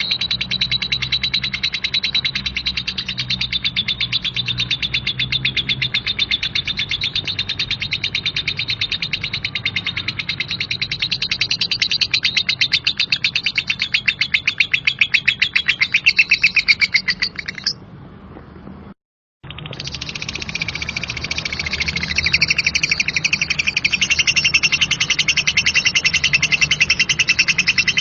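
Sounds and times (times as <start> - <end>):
lovebird chattering trill: 0.0 - 17.8, 19.4 - 28.0.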